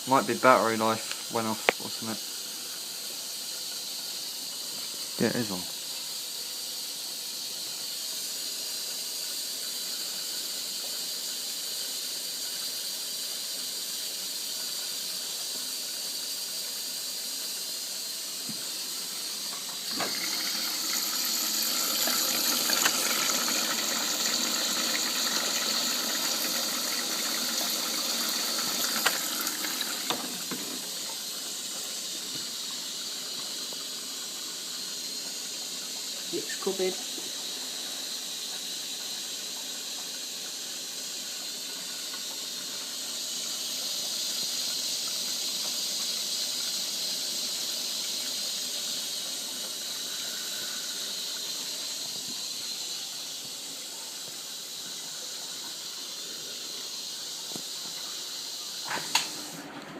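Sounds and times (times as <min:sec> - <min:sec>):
washing machine water hiss: 0:00.0 - 0:59.9.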